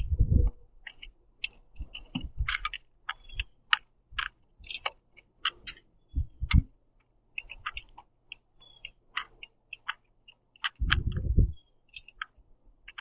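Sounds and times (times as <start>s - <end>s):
bills tapping seeds and wood: 0.0s - 13.0s.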